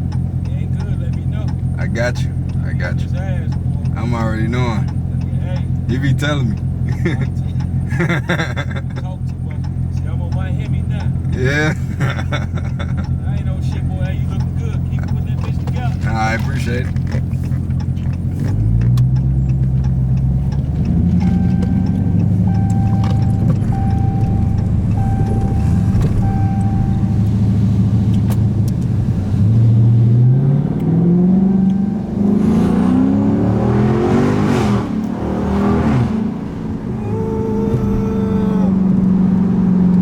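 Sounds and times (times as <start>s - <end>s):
car engine revving loud exhaust: 0.0s - 40.0s.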